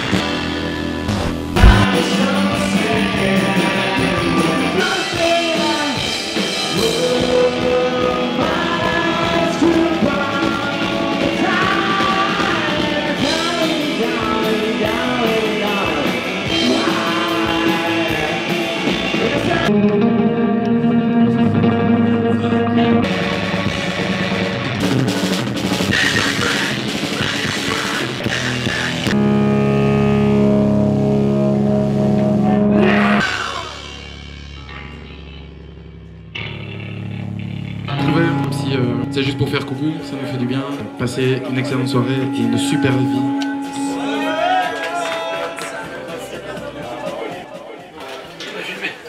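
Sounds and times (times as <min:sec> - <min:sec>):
rock music with singing: 0:00.0 - 0:48.5.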